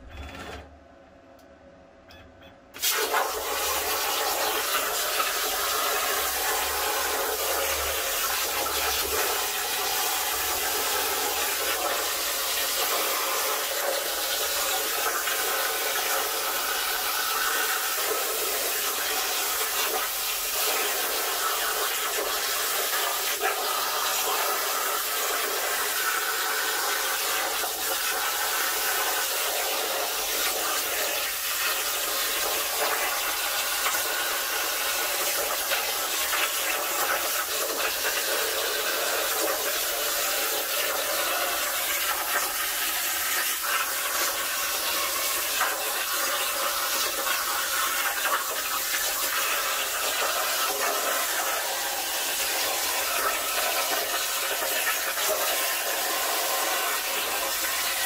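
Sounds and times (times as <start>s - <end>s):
plasma cutter hissing: 2.8s - 58.0s.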